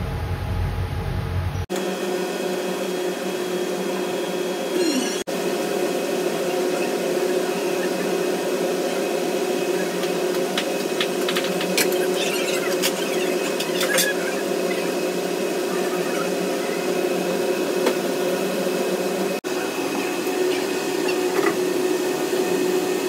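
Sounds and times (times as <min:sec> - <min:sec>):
oven fans humming: 0:00.0 - 0:23.0.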